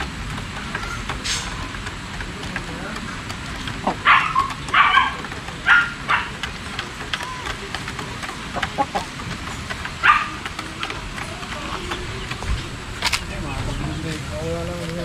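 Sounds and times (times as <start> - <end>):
chickens clucking: 0.5 - 15.0.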